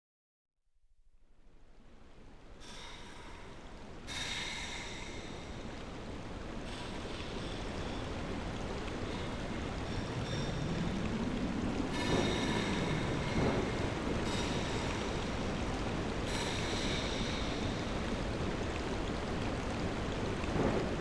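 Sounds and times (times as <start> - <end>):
rain-like wash of noise: 1.3 - 21.0.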